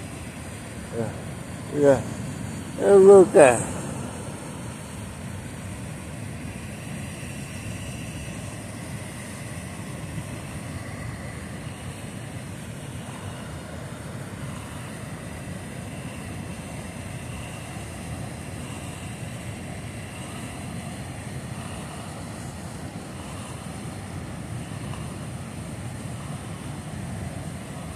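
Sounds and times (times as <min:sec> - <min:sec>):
river water rushing: 0:00.0 - 0:27.9.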